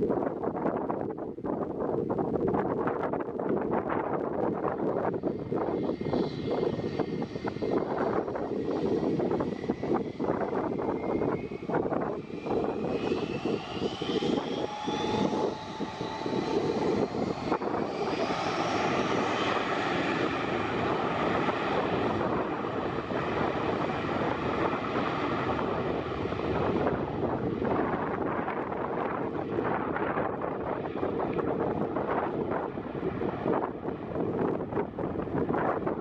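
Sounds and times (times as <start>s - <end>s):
wind buffeting microphone: 0.0s - 36.0s
jet engines spooling up: 4.8s - 35.9s.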